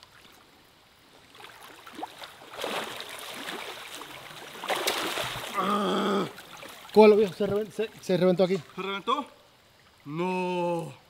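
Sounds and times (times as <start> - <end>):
river water rushing and splashing: 0.0 - 11.0.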